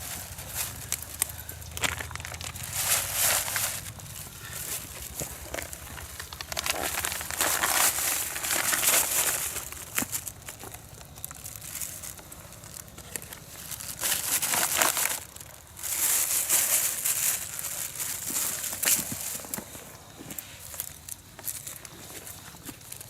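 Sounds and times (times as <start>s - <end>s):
rustling and crinkling: 0.0s - 23.0s.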